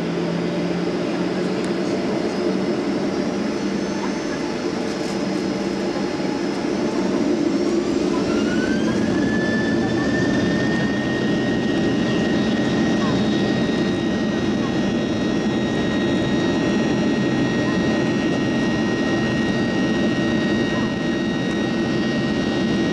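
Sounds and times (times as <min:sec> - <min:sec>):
jet engines spooling up: 0:00.0 - 0:22.9.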